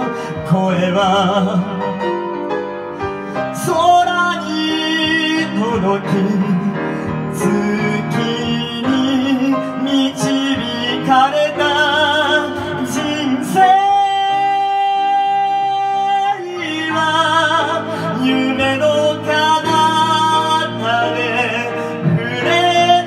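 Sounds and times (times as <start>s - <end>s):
person singing a ballad: 0.0s - 23.0s
piano accompaniment: 0.0s - 23.0s.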